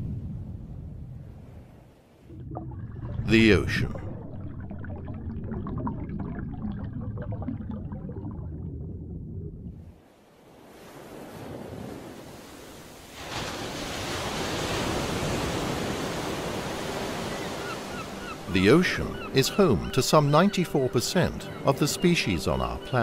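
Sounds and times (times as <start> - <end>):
waves breaking: 0.0 - 6.6, 9.7 - 23.0.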